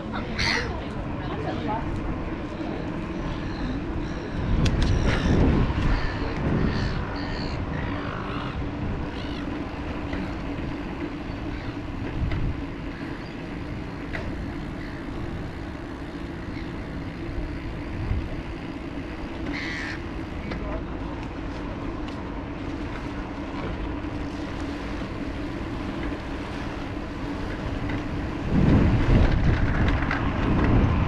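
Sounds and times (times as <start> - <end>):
bicycle rolling noise: 0.0 - 31.0
passing road traffic: 0.0 - 31.0
wind: 0.0 - 31.0.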